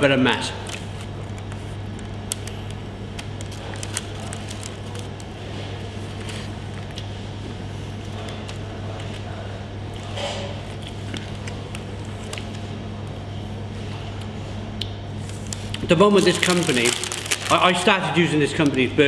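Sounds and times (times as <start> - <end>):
low mechanical hum: 0.0 - 19.0
squishy food handling sounds: 0.5 - 18.8.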